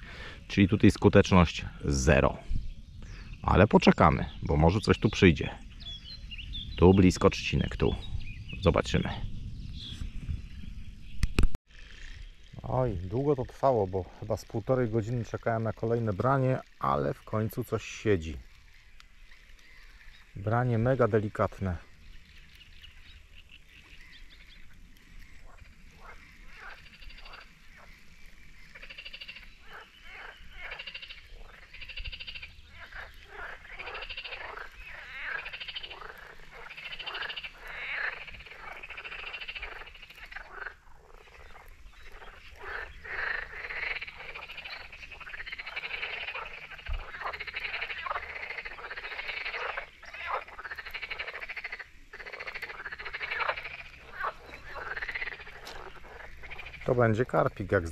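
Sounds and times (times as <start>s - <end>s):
frogs croaking: 0.0s - 57.9s.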